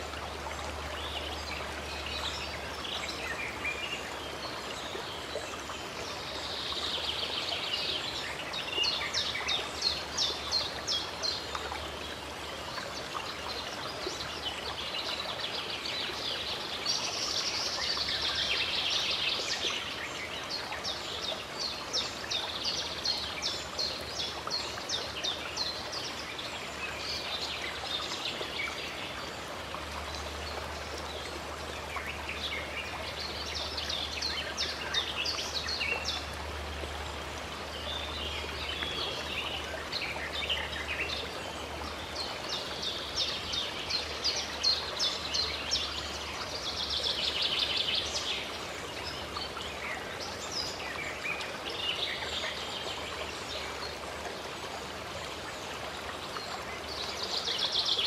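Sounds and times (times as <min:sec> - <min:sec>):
songbirds chirping: 0:00.0 - 0:58.0
stream rushing: 0:00.0 - 0:58.0.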